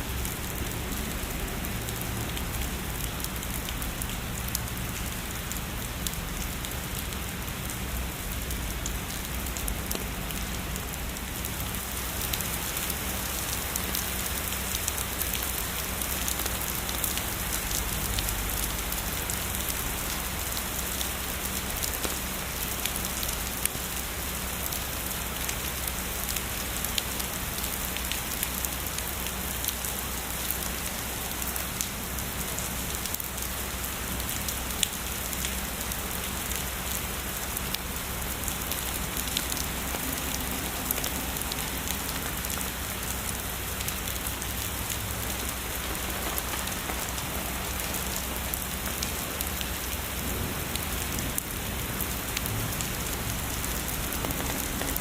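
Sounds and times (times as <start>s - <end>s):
heavy rain falling: 0.0s - 55.0s
raindrop ticks: 0.2s - 55.0s.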